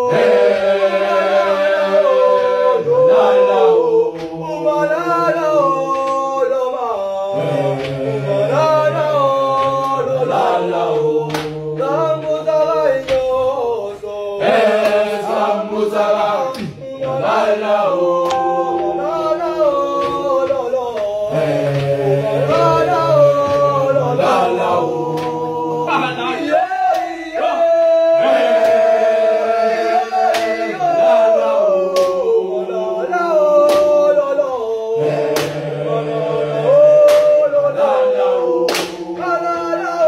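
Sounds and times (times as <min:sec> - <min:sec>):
boys' choir singing in harmony: 0:00.0 - 0:40.0.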